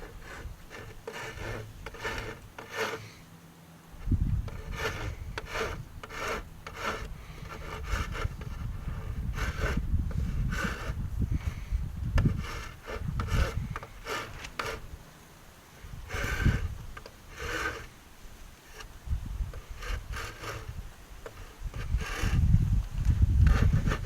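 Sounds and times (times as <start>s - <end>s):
hand tool scraping wood: 0.0s - 3.3s, 4.0s - 15.0s, 15.6s - 24.0s.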